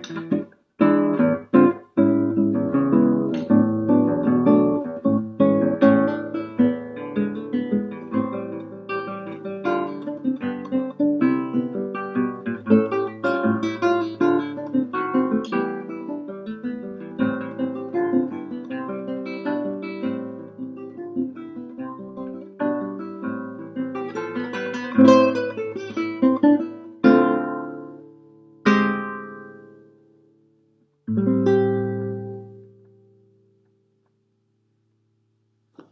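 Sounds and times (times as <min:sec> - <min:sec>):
fingerpicked classical guitar: 0:00.0 - 0:35.9.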